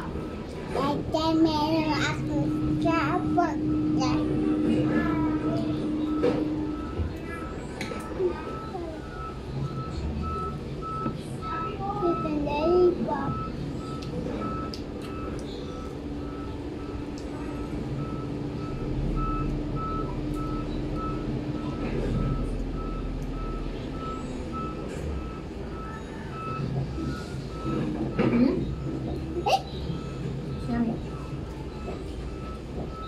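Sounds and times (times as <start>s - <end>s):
steady low hum: 0.0s - 33.0s
reversing alarm beeping: 1.3s - 33.0s.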